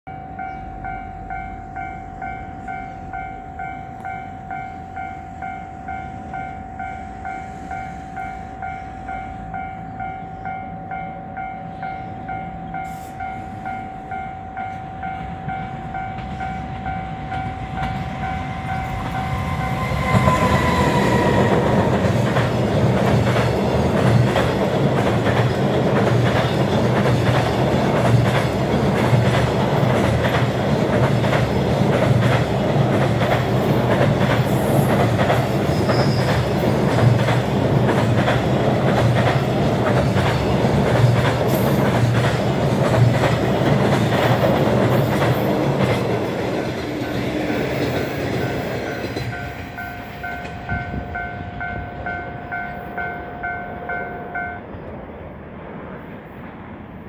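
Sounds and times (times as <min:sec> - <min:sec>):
level-crossing warning bell: 0:00.0 - 0:54.9.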